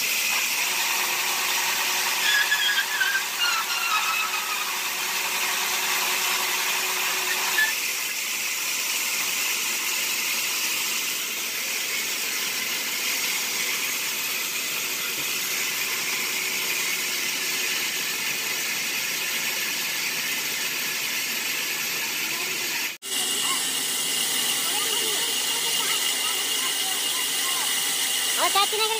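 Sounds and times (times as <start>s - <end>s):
band saw cutting logs: 0.0s - 28.9s.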